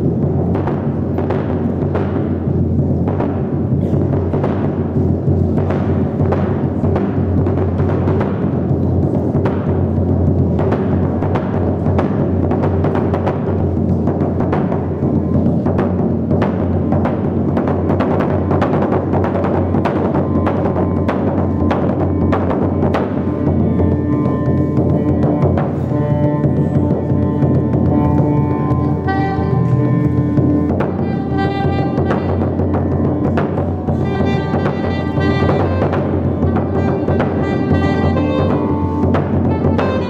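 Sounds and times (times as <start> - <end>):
large drum beaten with sticks: 0.0 - 40.0.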